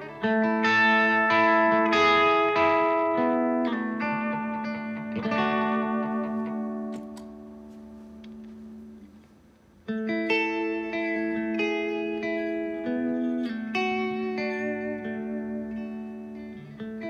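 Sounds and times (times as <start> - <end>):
overdriven electric guitar chords: 0.0 - 17.0.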